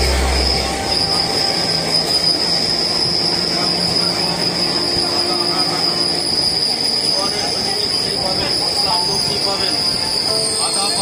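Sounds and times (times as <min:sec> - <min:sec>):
high-pitched wheel squeal: 0:00.0 - 0:11.0
train rumbling: 0:00.0 - 0:11.0.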